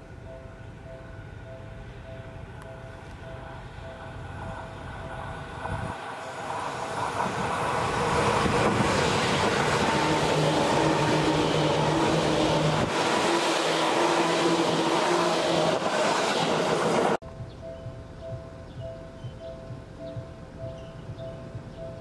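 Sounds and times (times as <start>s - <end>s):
electric train passing: 0.0s - 22.0s
steady hum: 0.0s - 22.0s.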